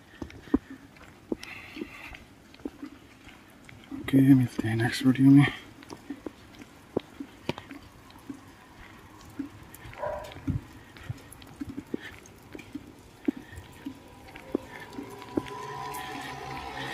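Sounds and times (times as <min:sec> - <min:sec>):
rain drips tapping: 0:00.0 - 0:16.9
soft rain hiss: 0:00.0 - 0:16.9.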